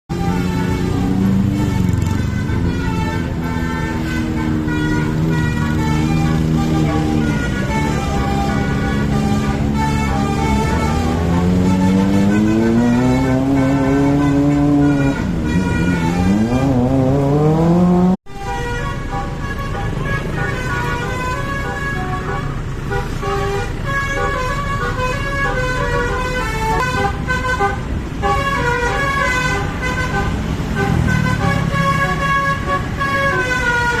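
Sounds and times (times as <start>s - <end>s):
multi-tone musical bus horn: 0.1s - 34.0s.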